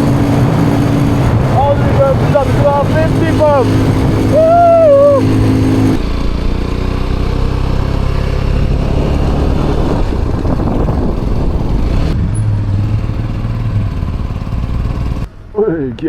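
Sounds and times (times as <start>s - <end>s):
motorcycle engine running: 0.0s - 15.4s
wind and road noise: 0.0s - 16.0s.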